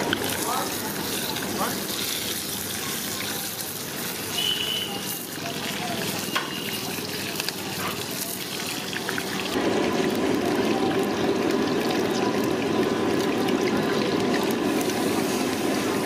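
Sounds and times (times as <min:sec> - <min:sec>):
hot oil sizzling in a wok: 0:00.0 - 0:16.0.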